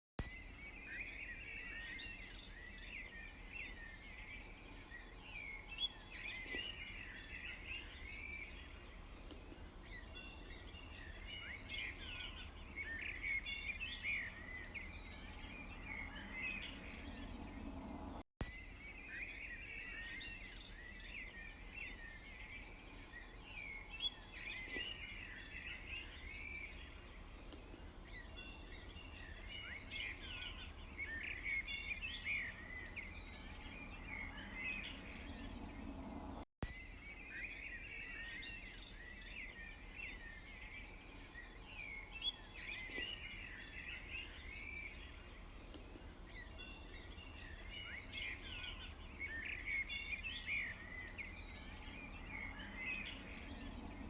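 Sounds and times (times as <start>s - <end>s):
small birds chirping: 0.2s - 54.0s.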